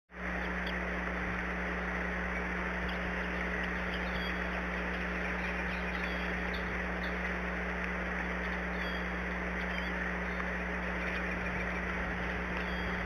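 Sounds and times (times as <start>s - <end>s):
low hum: 0.1s - 13.0s
steady hiss: 0.2s - 13.0s
eagle chicks chirping: 0.3s - 13.0s.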